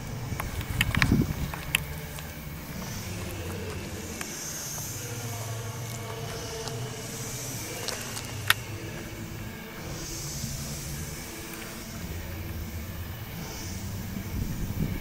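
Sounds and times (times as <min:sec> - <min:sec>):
motor vehicle humming: 0:00.0 - 0:15.0.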